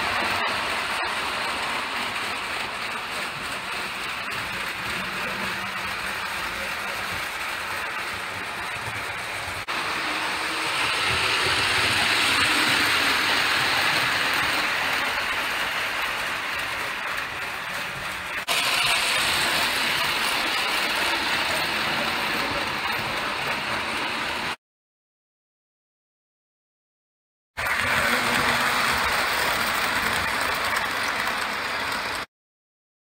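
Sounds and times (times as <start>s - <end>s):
toy train motor whirring: 0.0s - 24.5s, 27.6s - 32.3s.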